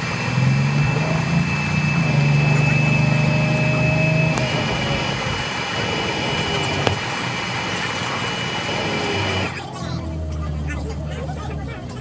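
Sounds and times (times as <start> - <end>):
bus engine whine: 0.0 - 12.0
deep engine hum: 0.0 - 12.0.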